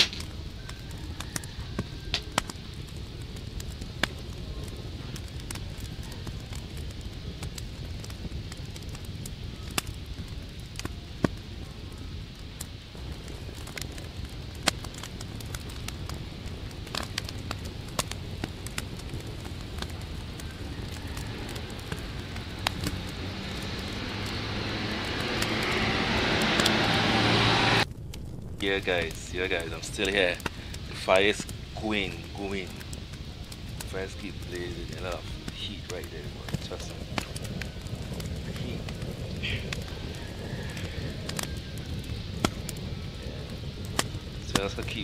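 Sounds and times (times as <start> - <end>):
low fire rumble: 0.0 - 45.0
wood fire crackling and popping: 0.0 - 45.0.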